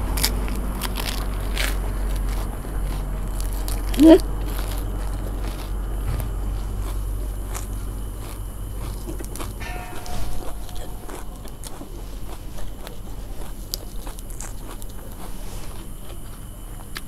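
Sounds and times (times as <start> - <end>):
chewing and crunching: 0.0 - 17.0
steady low hum: 0.0 - 17.0.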